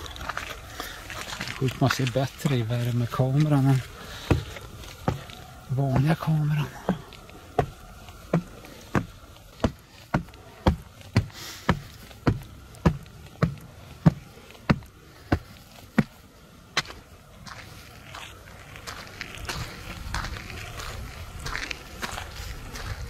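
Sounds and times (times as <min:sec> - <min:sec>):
footsteps climbing stairs: 0:00.0 - 0:23.0.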